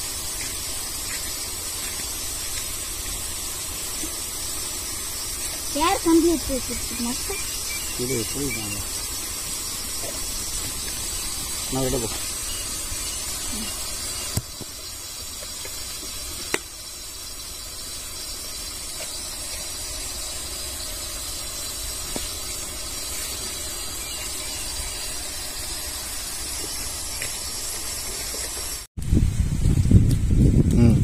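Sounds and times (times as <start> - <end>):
fire crackles: 0.0 - 8.2, 8.8 - 30.8
wood fire hissing: 0.0 - 31.0.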